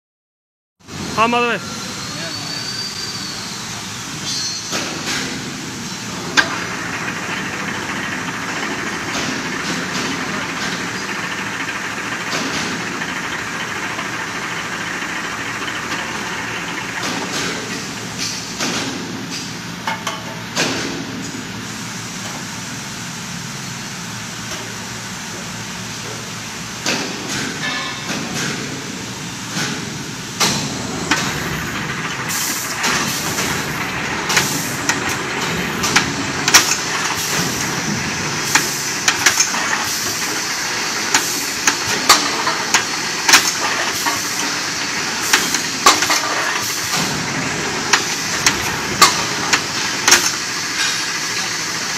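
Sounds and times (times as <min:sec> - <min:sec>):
machine clanking and knocking: 0:04.2 - 0:21.6, 0:25.4 - 0:51.9
machine hum: 0:04.9 - 0:51.9.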